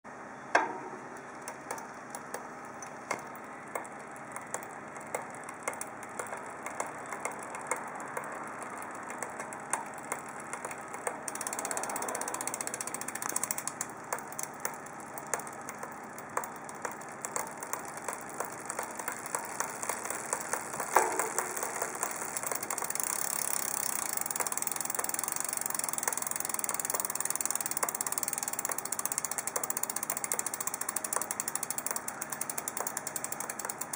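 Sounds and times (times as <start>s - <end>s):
bicycle drivetrain whirring: 0.0s - 33.9s.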